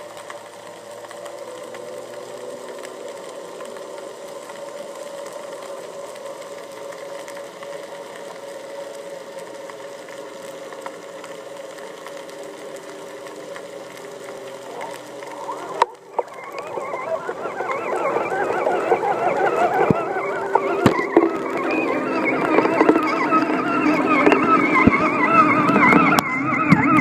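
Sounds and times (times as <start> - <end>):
churning bubbling water: 0.0 - 27.0
underwater motor hum: 0.0 - 27.0.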